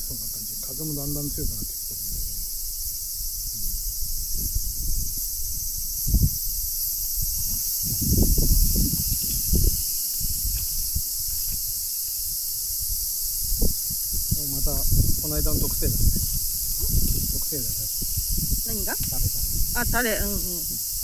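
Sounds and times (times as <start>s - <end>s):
insects chirring: 0.0s - 21.0s
wind gusting on microphone: 0.0s - 21.0s.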